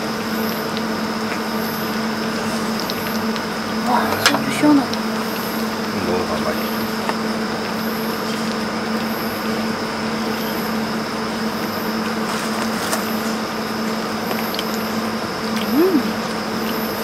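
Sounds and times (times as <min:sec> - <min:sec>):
air conditioner fan rushing: 0:00.0 - 0:15.6
constant low hum: 0:00.0 - 0:17.0.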